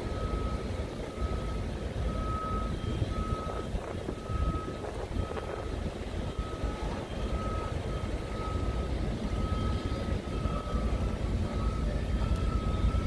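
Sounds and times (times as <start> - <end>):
reversing alarm beeping: 0.0 - 13.0
steady low rumble: 0.0 - 13.0.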